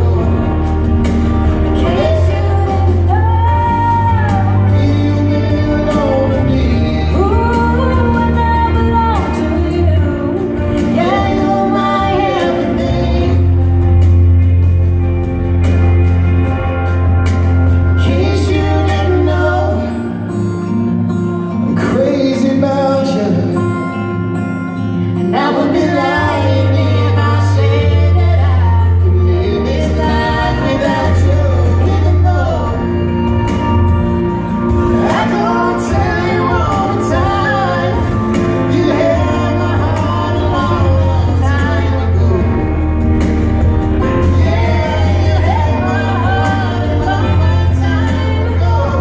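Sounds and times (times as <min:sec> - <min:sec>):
person singing: 0:00.0 - 0:14.1, 0:17.8 - 0:49.0
deep bass line: 0:00.0 - 0:22.8, 0:25.7 - 0:49.0
guitars: 0:00.0 - 0:49.0
keyboard: 0:00.0 - 0:49.0.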